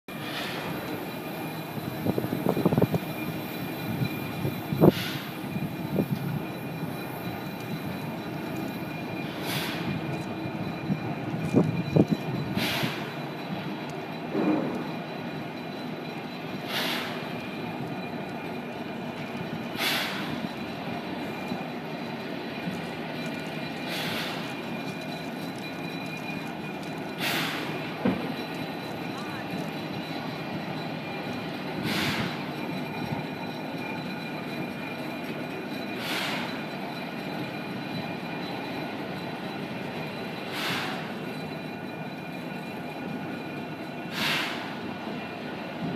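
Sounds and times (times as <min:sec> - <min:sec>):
steam hissing: 0:00.1 - 0:45.9
steam locomotive rumble: 0:00.1 - 0:45.9.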